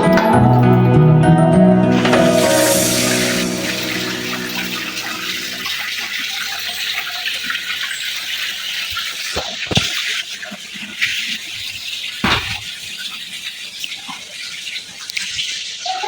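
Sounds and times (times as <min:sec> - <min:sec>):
running water rushing: 0:01.9 - 0:16.0.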